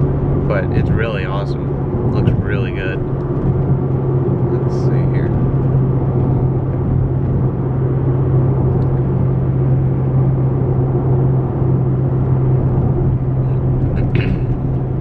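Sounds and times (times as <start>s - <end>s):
car engine hum: 0.0s - 15.0s
tyre and road noise: 0.0s - 15.0s.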